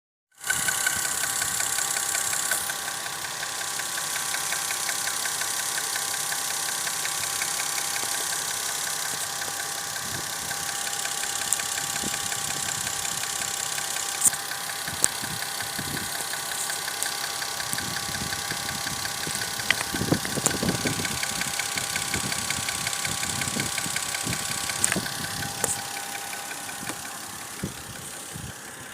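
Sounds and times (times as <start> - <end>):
engine idling with knock: 0.4 - 28.9.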